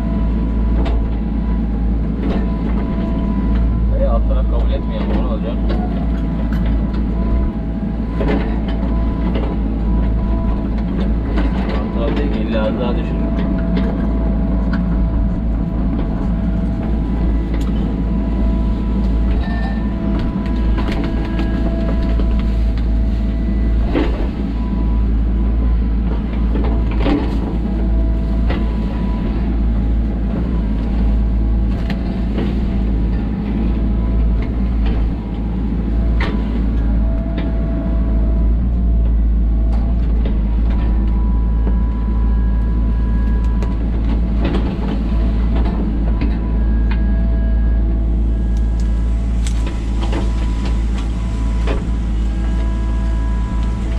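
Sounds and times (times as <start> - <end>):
excavator diesel engine: 0.0 - 53.9
hydraulic whine: 0.0 - 53.9.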